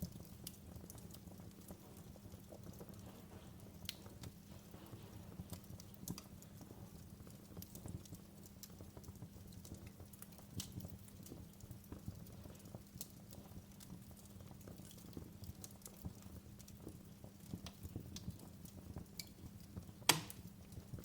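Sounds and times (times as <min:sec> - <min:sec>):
fire popping: 0:00.0 - 0:21.0
low rumble of flames: 0:00.0 - 0:21.0
wood fire crackling: 0:00.0 - 0:21.0.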